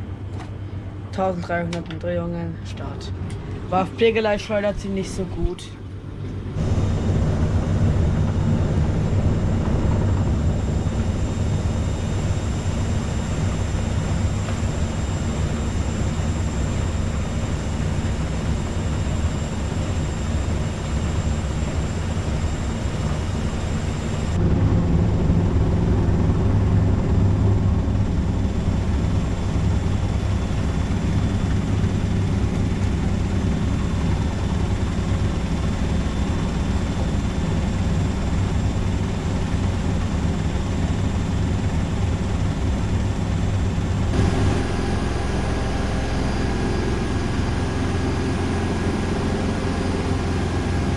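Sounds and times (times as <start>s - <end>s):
washing machine spinning: 5.4s - 50.9s.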